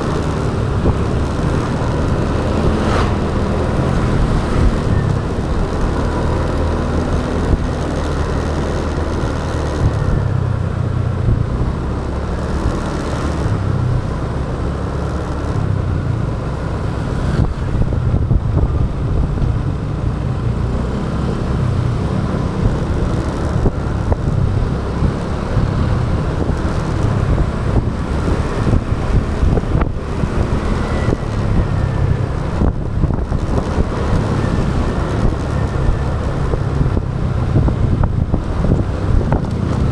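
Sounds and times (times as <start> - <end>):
motorbike engine rumble: 0.0 - 39.9
road noise: 0.0 - 39.9.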